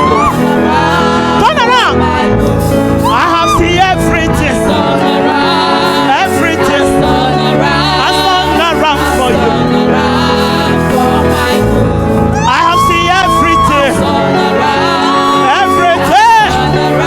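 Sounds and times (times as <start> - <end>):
gospel music with singing: 0.0 - 17.0.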